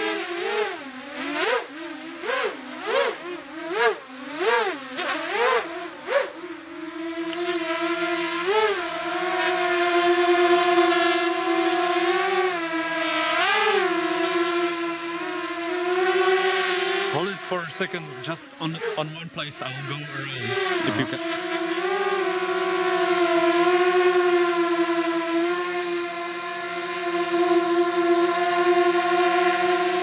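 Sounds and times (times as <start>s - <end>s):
quadcopter motors whining: 0.0s - 17.1s, 20.5s - 30.0s.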